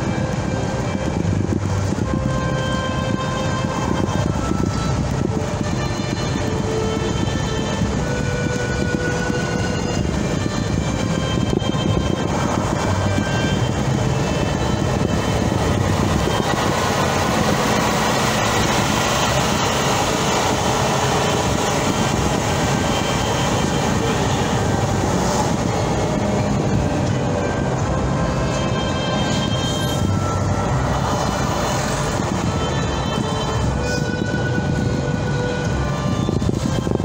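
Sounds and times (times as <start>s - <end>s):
car driving on highway: 0.0s - 37.0s.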